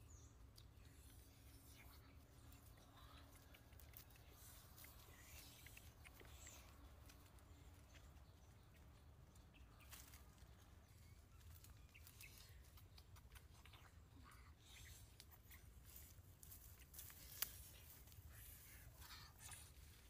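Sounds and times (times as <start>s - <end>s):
small ticks and crackles: 0.0s - 20.0s.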